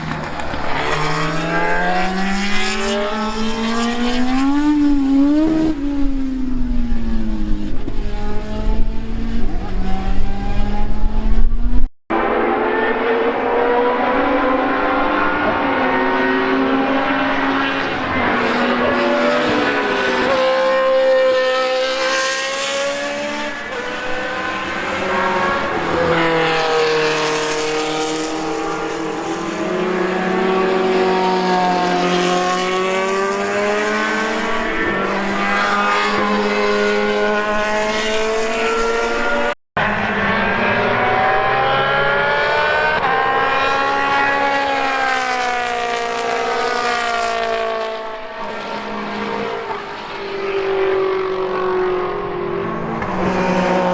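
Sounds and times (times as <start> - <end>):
racing car engines passing: 0.0 - 11.5, 12.1 - 53.9.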